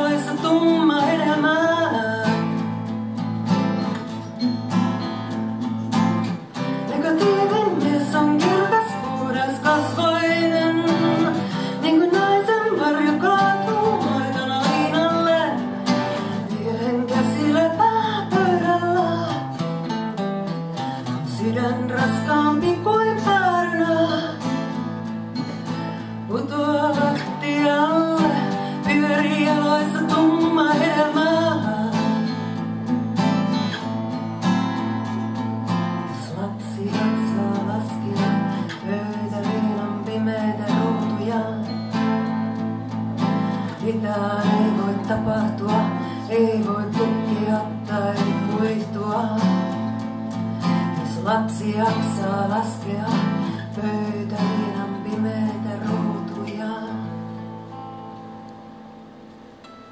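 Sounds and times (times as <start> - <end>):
woman singing: 0.0 - 3.1, 6.3 - 19.6, 20.8 - 33.0, 36.0 - 57.4
acoustic guitars playing: 0.0 - 59.9.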